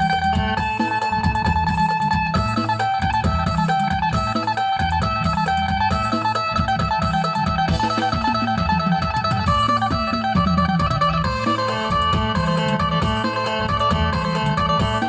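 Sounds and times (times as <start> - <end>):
plucked lute melody: 0.0 - 15.0
pulsing bass line: 0.0 - 15.0.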